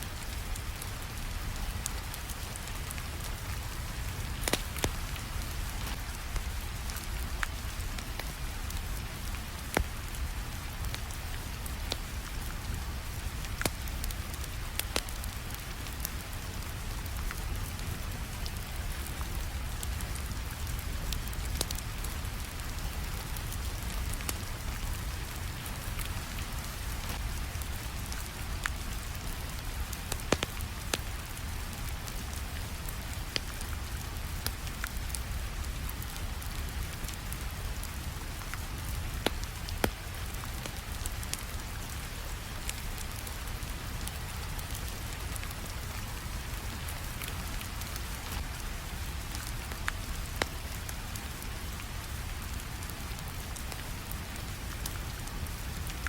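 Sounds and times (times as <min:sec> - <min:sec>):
crackling wood fire: 0:00.0 - 0:56.0
steady rain: 0:00.0 - 0:56.0.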